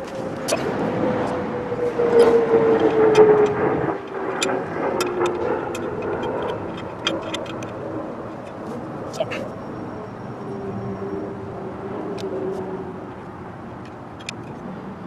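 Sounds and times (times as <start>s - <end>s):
passing vehicle hum: 0.0s - 15.0s.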